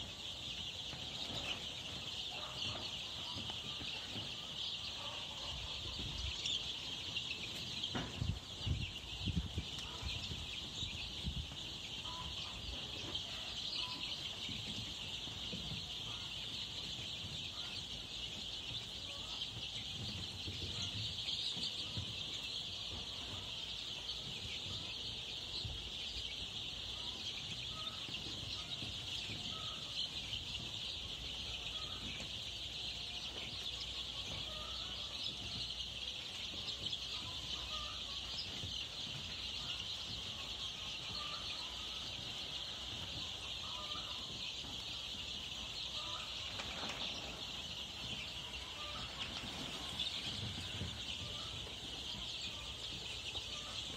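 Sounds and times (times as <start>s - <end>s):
chicks peeping: 0.0s - 53.9s.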